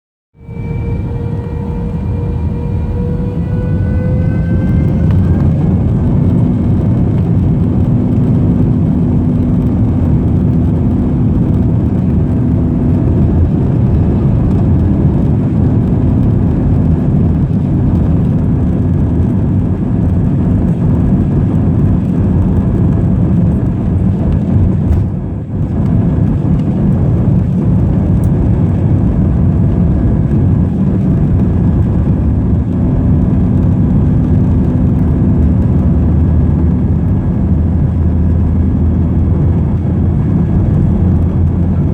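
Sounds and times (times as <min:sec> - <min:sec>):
aircraft engines roaring: 0:00.4 - 0:41.9.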